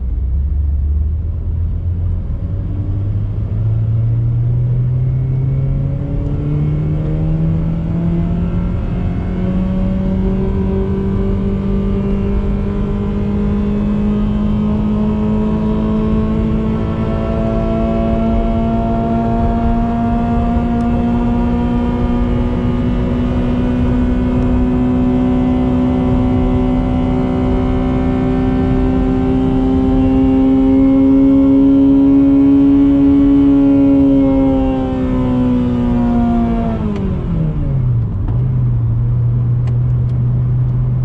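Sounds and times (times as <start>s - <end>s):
car engine revving high: 2.3s - 41.0s.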